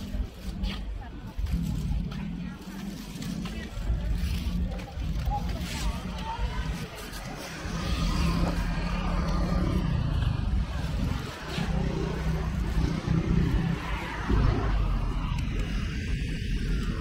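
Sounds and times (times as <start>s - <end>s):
vehicle engines droning: 0.0s - 17.0s.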